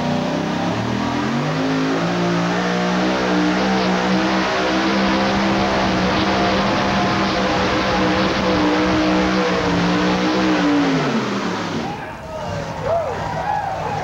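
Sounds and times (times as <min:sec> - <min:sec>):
truck engine at full throttle: 0:00.0 - 0:14.0.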